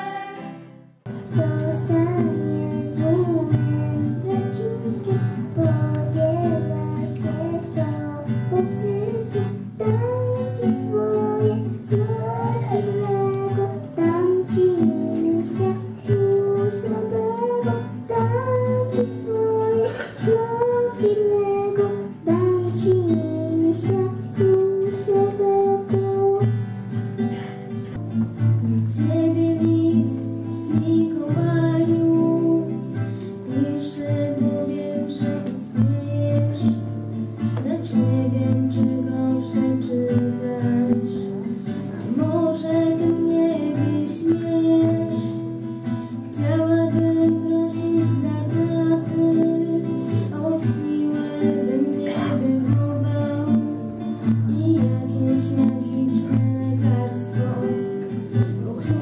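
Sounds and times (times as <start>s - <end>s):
acoustic guitar: 0.0s - 59.0s
girl singing into a microphone: 0.0s - 59.0s.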